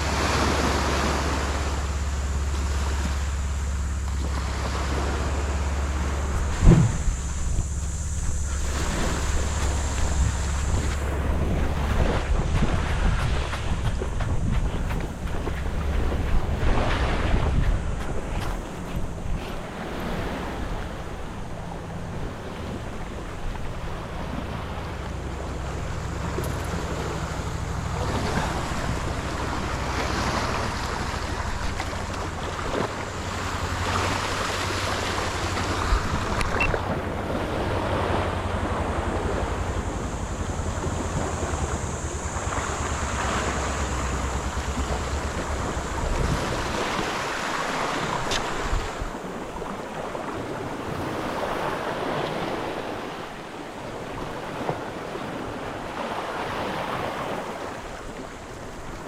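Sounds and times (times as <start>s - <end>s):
low rumble: 0.0s - 47.3s
water splashing against boat: 0.0s - 59.0s
wind buffeting microphone: 0.0s - 59.0s.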